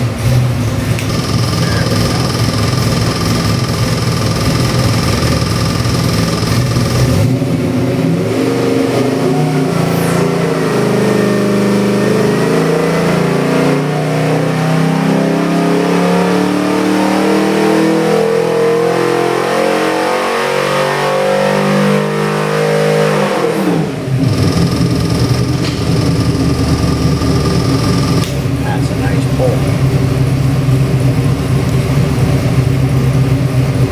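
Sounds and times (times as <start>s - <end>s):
engine revving under load: 0.0s - 33.9s.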